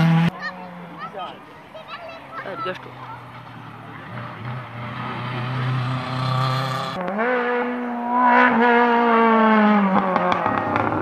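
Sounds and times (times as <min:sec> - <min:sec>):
rally car engine revving: 0:00.0 - 0:00.8, 0:02.9 - 0:11.0.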